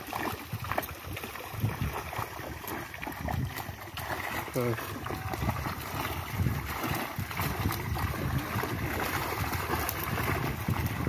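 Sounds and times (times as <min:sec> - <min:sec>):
water sloshing and splashing: 0:00.0 - 0:11.0
wind buffeting microphone: 0:00.0 - 0:11.0.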